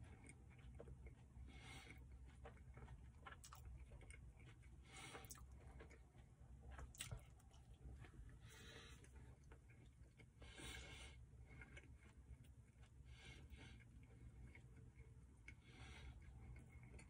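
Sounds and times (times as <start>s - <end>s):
close-up chewing: 0.0s - 17.0s
low steady hum: 0.0s - 17.0s.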